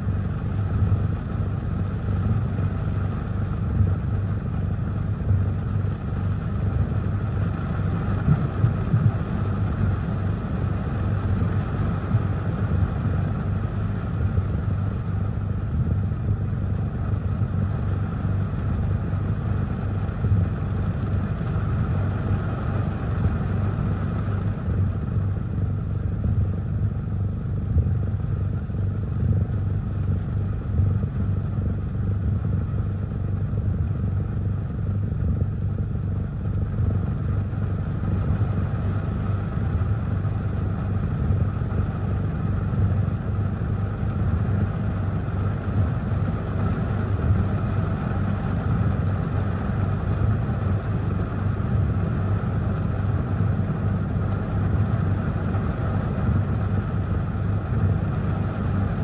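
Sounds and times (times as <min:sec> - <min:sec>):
wind rumble outside car: 0:00.0 - 0:59.0.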